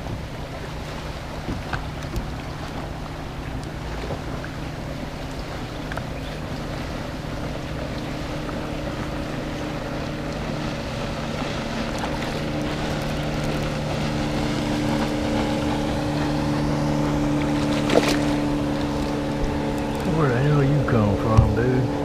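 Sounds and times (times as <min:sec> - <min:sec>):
boat motor humming: 0:00.0 - 0:22.0
water noise: 0:00.0 - 0:22.0
wind: 0:00.0 - 0:22.0.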